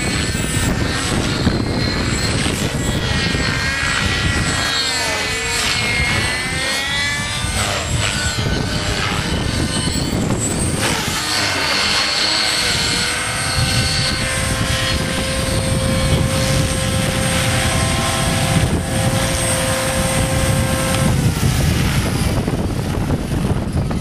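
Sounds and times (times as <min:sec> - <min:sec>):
model helicopter whine: 0:00.0 - 0:24.0
wind on microphone: 0:00.0 - 0:24.0.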